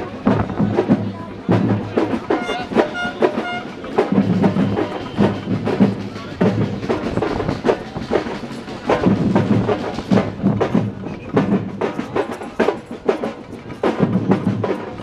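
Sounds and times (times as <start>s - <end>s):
drums beating a steady rhythm: 0.0s - 15.0s.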